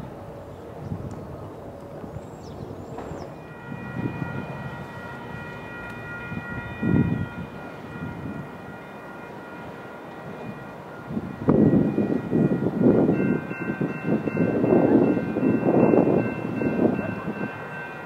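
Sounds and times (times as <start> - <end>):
low train rumble: 0.0 - 18.0
crossing warning bells ringing: 2.4 - 18.0.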